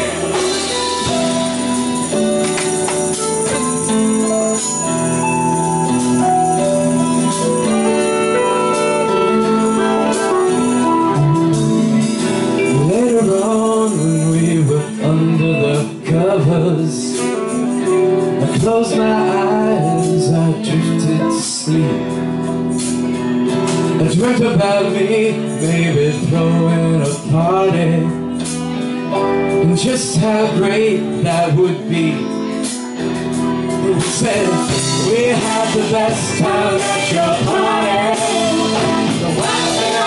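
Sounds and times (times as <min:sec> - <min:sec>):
person singing: 0:00.0 - 0:02.6, 0:06.5 - 0:22.4, 0:24.0 - 0:32.9, 0:33.6 - 0:40.0
live band playing: 0:00.0 - 0:40.0.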